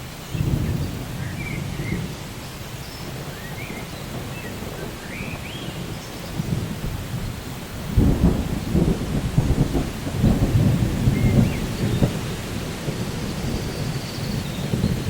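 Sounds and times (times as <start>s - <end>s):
steady rain: 0.0s - 15.0s
crackling roll of thunder: 0.3s - 15.0s.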